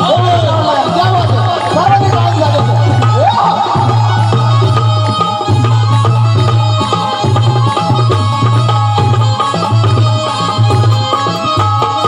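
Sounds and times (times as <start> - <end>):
fast hand-drum strokes: 0.0 - 12.0
sustained melody line: 0.0 - 12.0.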